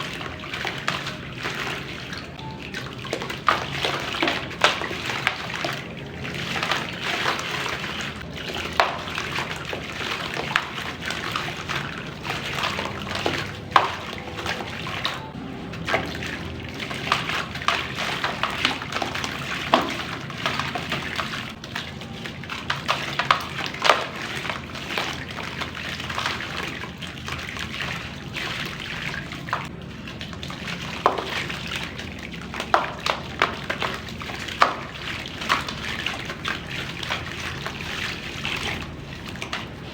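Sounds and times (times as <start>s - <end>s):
water sloshing: 0.0s - 39.9s.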